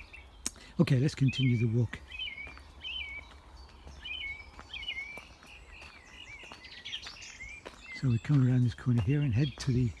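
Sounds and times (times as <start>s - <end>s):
songbird warbling: 0.0s - 10.0s.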